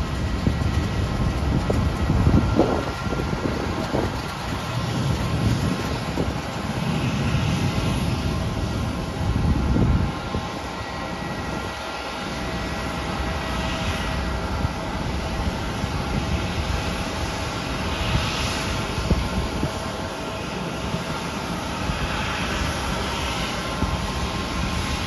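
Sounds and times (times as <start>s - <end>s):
jet engine whine and rumble: 0.0s - 25.0s
wind buffeting microphone: 0.0s - 25.0s.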